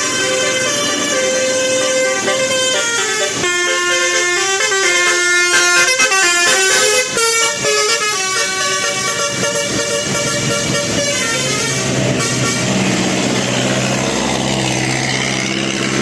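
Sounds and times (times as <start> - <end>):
musical bus horn playing tune: 0.0 - 15.3.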